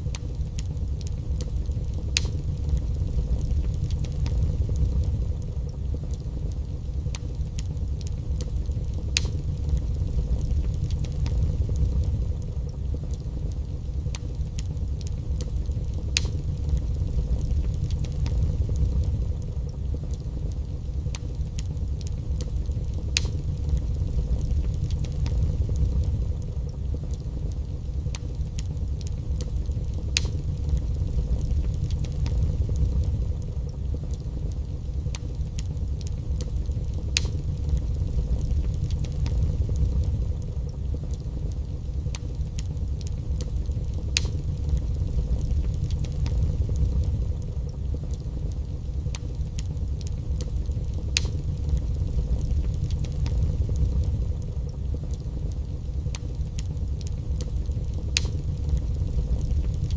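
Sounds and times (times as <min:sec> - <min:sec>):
fire crackling and popping: 0:00.0 - 0:59.9
fire low rumble: 0:00.0 - 0:59.9.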